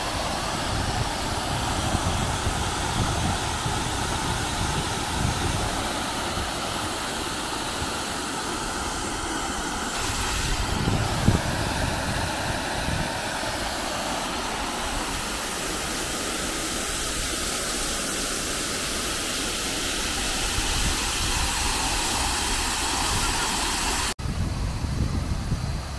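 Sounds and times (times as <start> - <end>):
fountain water splashing into basin: 0.0 - 24.2.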